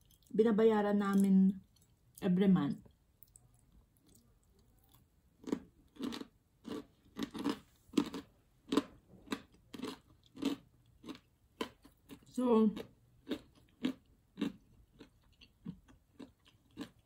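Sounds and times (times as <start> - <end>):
person chewing crispy fried food: 0.0 - 0.3, 1.6 - 2.2, 2.9 - 17.0.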